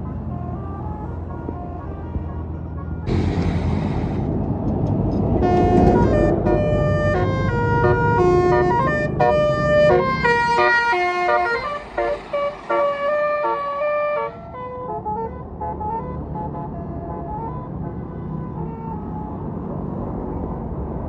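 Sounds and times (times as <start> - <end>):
multi-tone bus horn tune: 0.0 - 4.2, 5.2 - 19.4
bus engine and road rumble: 0.0 - 21.0.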